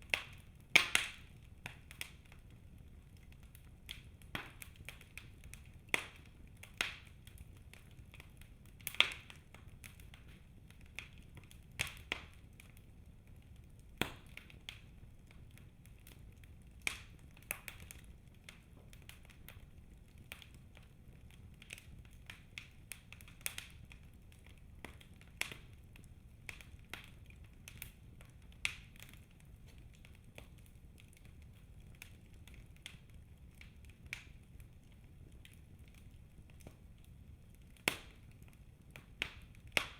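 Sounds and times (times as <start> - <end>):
fire snaps and pops: 0.0 - 39.9
low rumble of flames: 0.0 - 39.9
wood fire crackling: 0.0 - 39.9.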